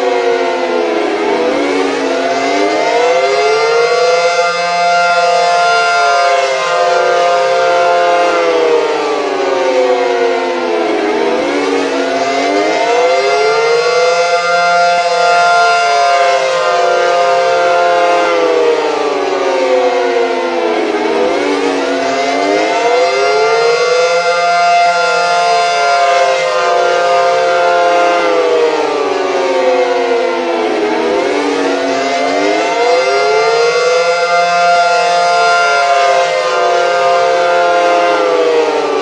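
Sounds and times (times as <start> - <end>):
synthesized siren wailing: 0.0 - 39.0.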